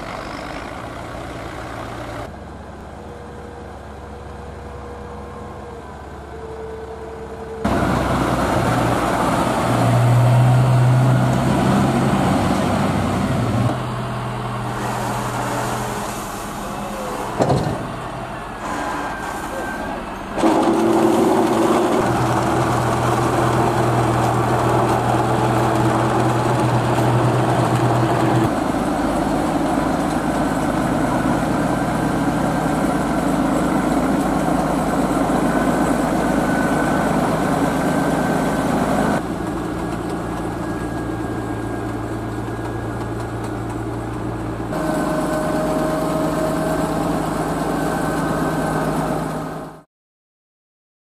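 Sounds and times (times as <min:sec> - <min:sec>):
tractor diesel engine under load: 0:00.0 - 0:49.8.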